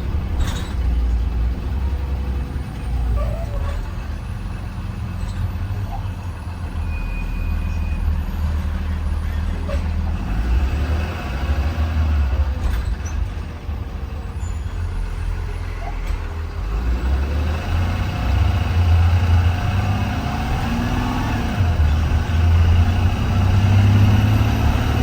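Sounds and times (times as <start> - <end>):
bus engine rumble: 0.0 - 25.0
road noise: 0.0 - 25.0.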